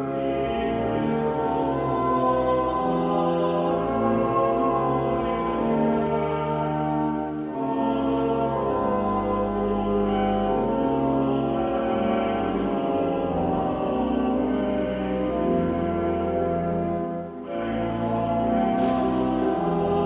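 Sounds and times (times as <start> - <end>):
church organ playing hymn: 0.0 - 20.0.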